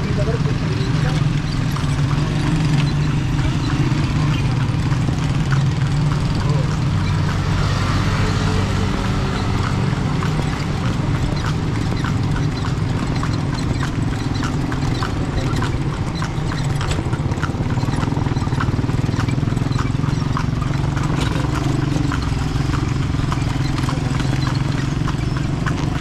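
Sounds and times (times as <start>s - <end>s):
horse hooves clip-clopping: 0.0s - 26.0s.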